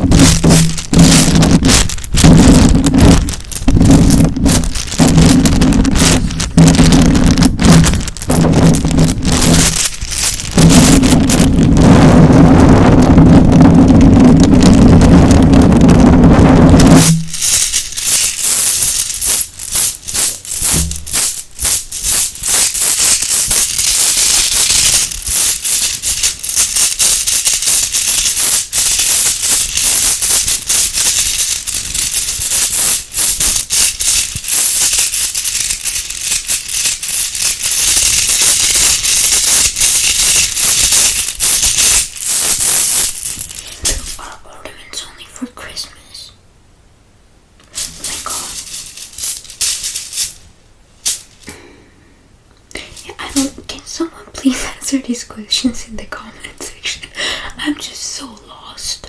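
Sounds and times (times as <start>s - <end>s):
bone ornaments rattling: 0.0s - 44.8s, 47.6s - 51.7s.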